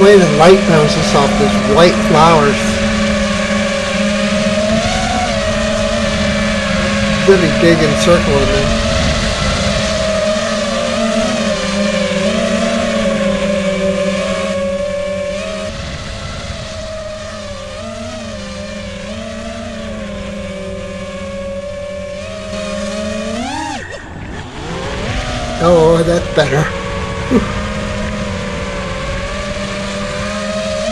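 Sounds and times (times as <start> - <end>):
quadcopter buzzing whine: 0.0 - 30.9.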